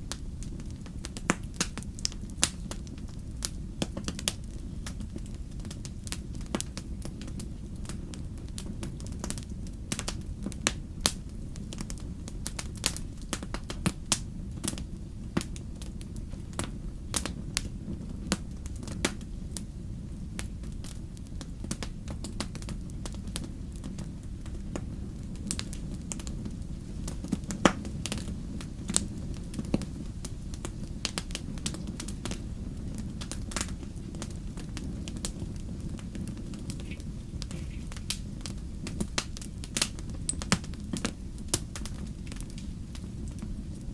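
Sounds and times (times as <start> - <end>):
fire crackling with pops: 0.0 - 43.9
low rumble of flames: 0.0 - 43.9.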